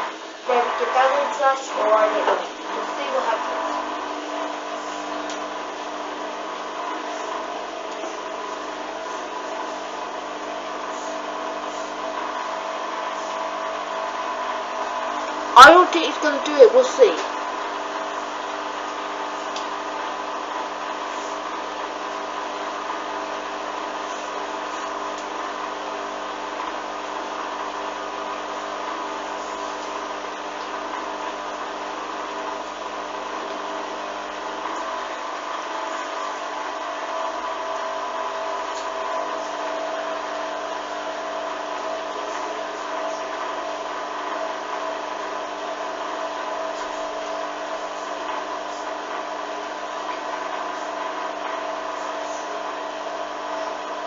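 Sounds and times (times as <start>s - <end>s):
washing machine drum motor humming: 0.0s - 54.0s.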